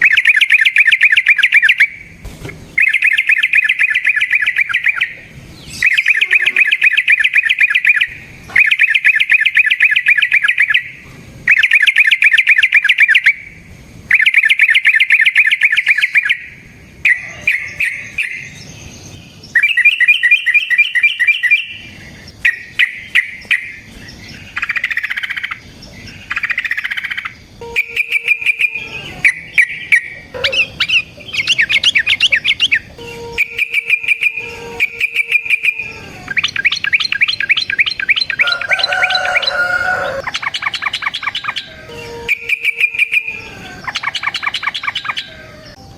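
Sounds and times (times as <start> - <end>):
bird singing rattling trills: 0.0 - 45.9.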